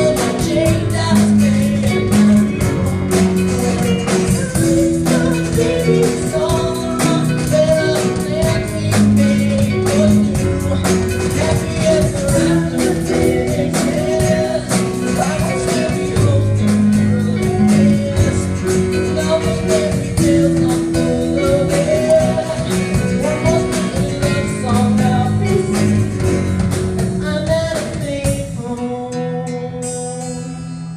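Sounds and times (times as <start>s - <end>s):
man singing: 0.0s - 30.7s
acoustic guitar strumming: 0.0s - 30.9s.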